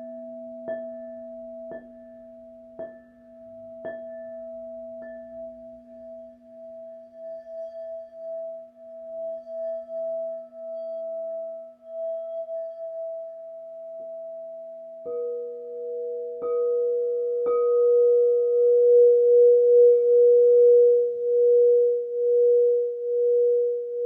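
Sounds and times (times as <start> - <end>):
crystal singing bowls ringing: 0.0 - 24.0
low bowl steady hum: 0.0 - 24.0.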